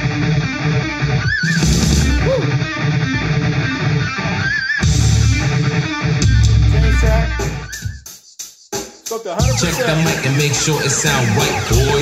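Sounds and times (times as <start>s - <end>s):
rock music through speaker: 0.0s - 12.0s.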